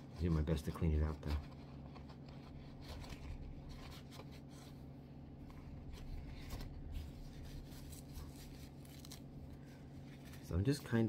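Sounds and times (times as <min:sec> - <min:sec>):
low hum: 0:01.2 - 0:11.0.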